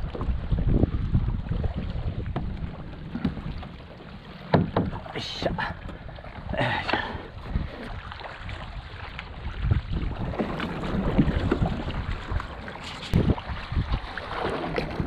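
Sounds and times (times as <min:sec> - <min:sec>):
water splashing around kayak: 0:00.0 - 0:15.0
wind rumbling on microphone: 0:00.0 - 0:15.0.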